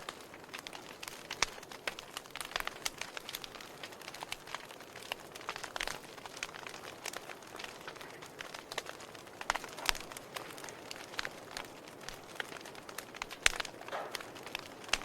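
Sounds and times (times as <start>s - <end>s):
soft steady fire hiss: 0.0s - 15.0s
wood fire crackling and popping: 0.0s - 15.0s.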